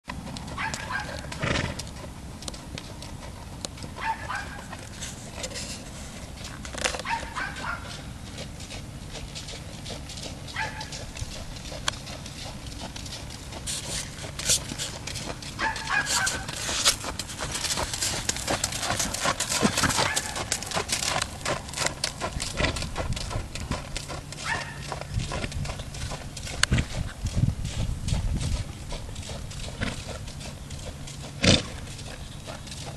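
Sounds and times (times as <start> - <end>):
hooves crunching on gravel: 0.1 - 32.9.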